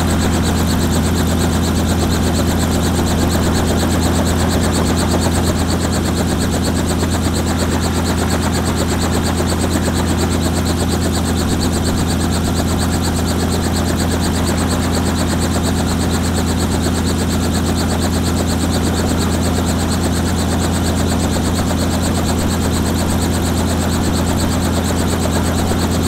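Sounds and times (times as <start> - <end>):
helicopter piston engine running: 0.0 - 26.0
helicopter rotors chopping: 0.0 - 26.0.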